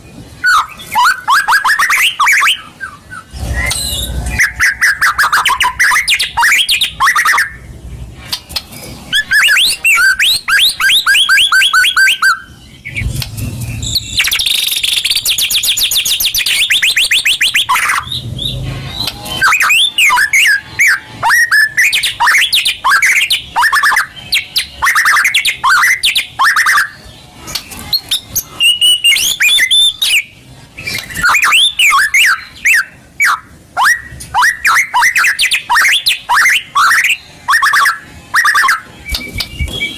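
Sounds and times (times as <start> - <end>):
bird singing whistled song: 0.4 - 7.7, 9.1 - 13.1, 13.7 - 39.9.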